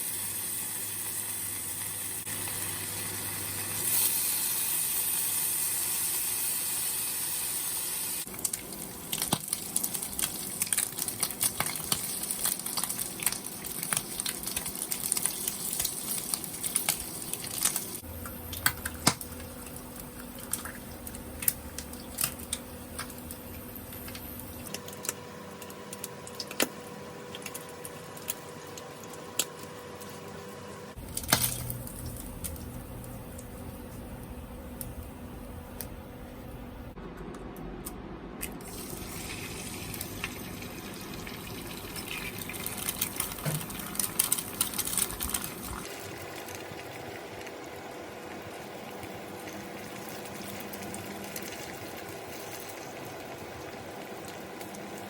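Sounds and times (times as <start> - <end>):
bacon frying in a pan: 0.0 - 30.4, 31.0 - 36.0, 38.6 - 55.0.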